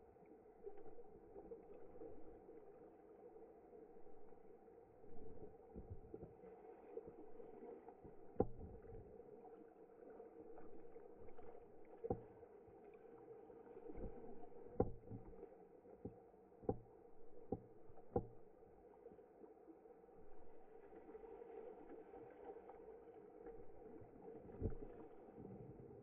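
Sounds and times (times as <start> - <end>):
muffled pool water lapping: 0.0 - 26.0.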